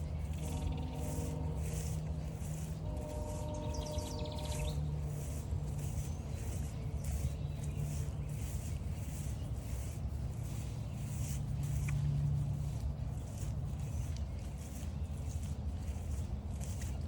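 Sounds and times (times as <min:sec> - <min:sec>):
distant engine drone: 0:00.0 - 0:17.0
footsteps swishing through grass: 0:00.0 - 0:17.0.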